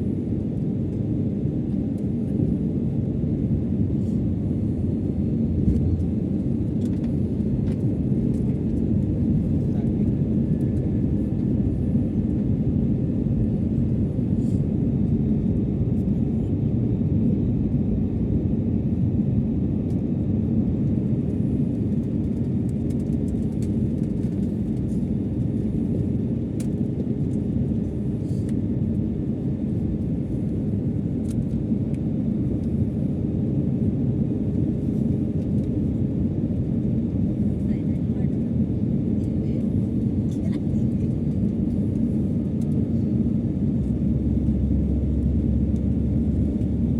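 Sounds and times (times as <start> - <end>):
jet airliner cabin drone: 0.0 - 46.9.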